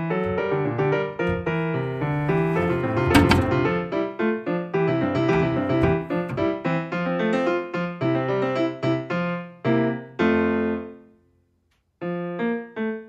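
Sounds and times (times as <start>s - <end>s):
piano music: 0.0s - 11.1s.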